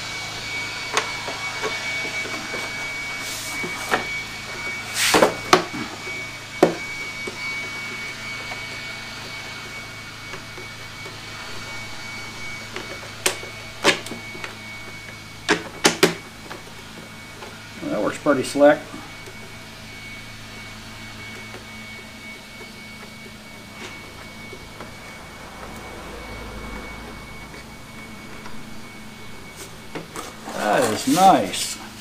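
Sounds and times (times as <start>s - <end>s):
steady background hum: 0.0s - 32.0s.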